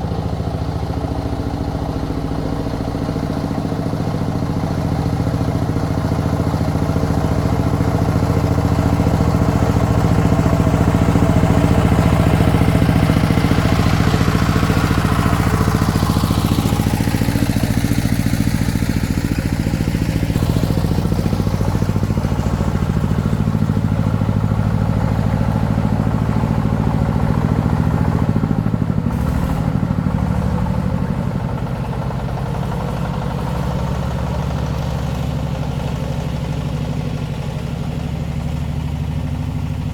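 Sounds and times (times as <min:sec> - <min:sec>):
diesel engine running: 0:00.0 - 0:39.9
engine whine: 0:00.0 - 0:39.9.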